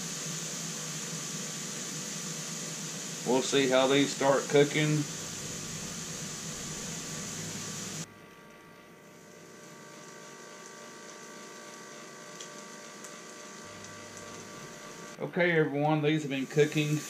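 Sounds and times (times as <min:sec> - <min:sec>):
meat sizzling: 0:00.0 - 0:15.2, 0:16.2 - 0:17.0
grill fan running: 0:00.0 - 0:17.0.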